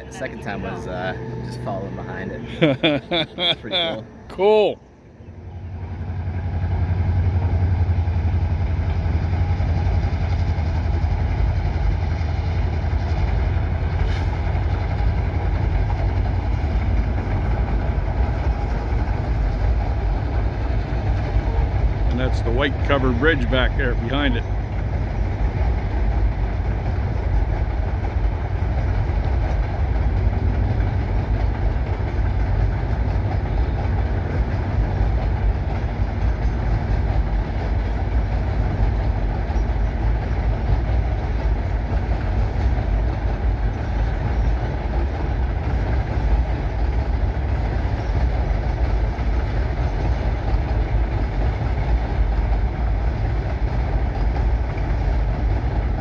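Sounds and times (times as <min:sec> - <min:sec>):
train cars rumbling on rails: 0:00.0 - 0:56.0.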